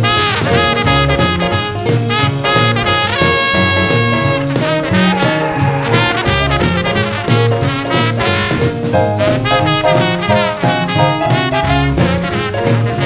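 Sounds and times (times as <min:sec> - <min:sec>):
brass lead playing: 0:00.0 - 0:13.0
rhythm section playing: 0:00.0 - 0:13.0.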